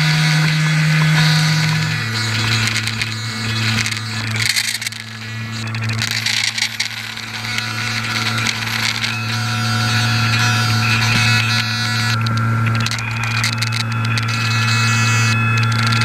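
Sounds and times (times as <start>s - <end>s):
electric motor and propeller hum: 0.0s - 16.0s.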